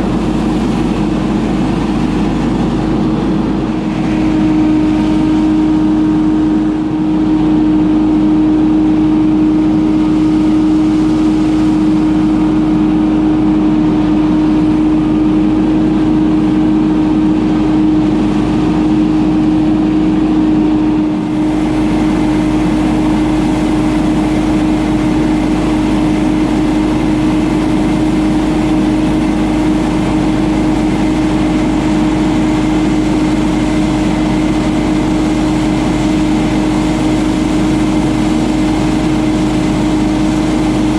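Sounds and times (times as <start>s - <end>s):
debris blower engine droning: 0.0s - 40.9s.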